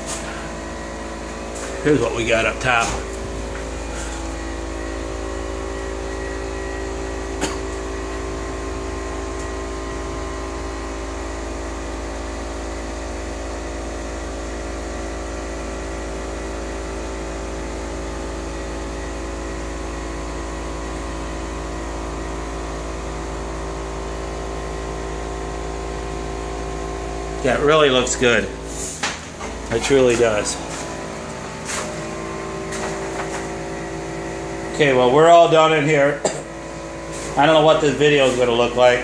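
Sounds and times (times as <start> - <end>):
motor or fan humming: 0.0 - 39.0.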